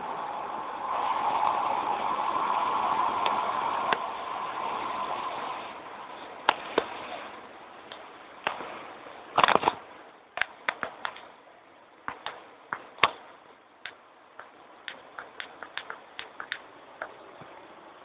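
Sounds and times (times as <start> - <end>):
faint rain hiss: 0.0 - 18.0.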